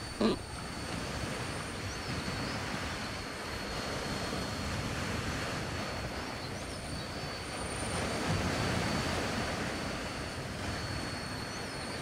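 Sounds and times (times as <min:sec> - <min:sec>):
high insect whine: 0:00.0 - 0:12.0.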